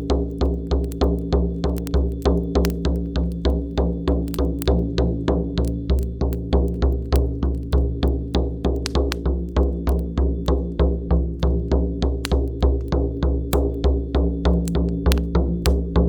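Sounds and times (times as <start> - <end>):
frame drum beating: 0.0 - 16.0.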